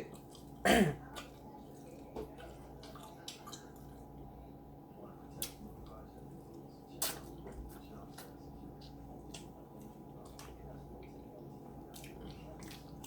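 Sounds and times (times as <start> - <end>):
wet eating squishes: 0.0 - 4.4, 5.3 - 13.0.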